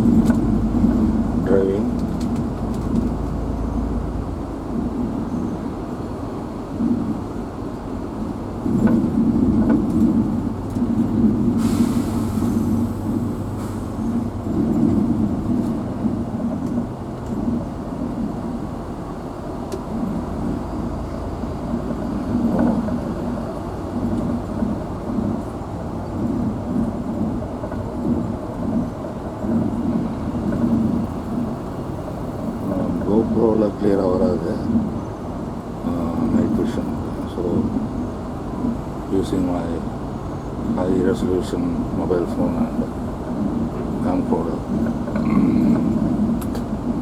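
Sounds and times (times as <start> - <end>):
road noise: 0.0 - 47.0
vehicle engine from inside cab: 0.0 - 47.0.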